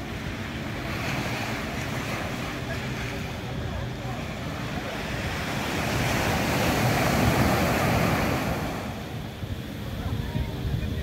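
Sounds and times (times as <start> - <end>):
surf washing onto beach: 0.0 - 10.3
wind rumbling on microphone: 0.0 - 11.0.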